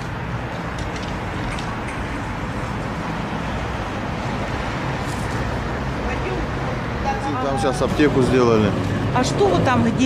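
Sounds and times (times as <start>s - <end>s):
motor vehicles rumbling: 0.0s - 10.0s.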